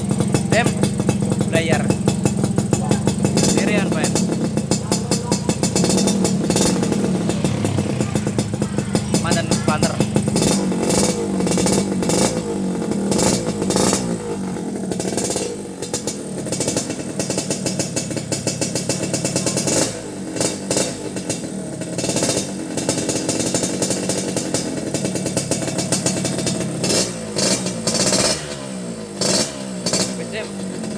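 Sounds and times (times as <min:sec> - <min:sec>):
two-stroke motorcycle engine revving: 0:00.0 - 0:30.9.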